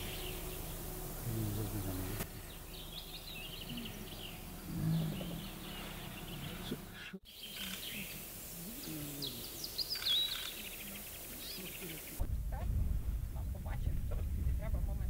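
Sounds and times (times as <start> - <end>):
songbirds chirping: 0.0 - 12.3
outdoor background noise: 0.0 - 15.0.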